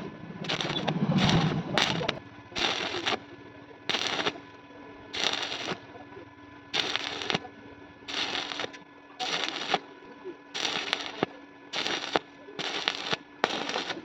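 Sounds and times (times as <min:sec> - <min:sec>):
welding arc crackling: 0:00.0 - 0:06.0, 0:06.6 - 0:14.0
faint steady hum: 0:00.0 - 0:14.0.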